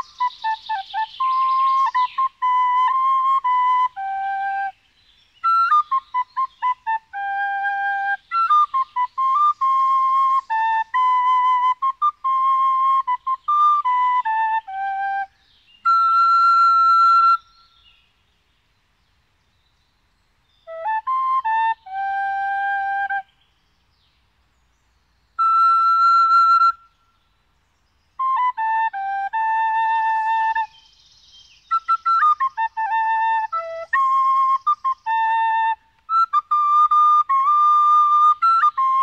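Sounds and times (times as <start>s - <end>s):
flute-like wind melody: 0.0s - 18.0s, 20.4s - 23.6s, 25.3s - 27.4s, 28.0s - 39.0s.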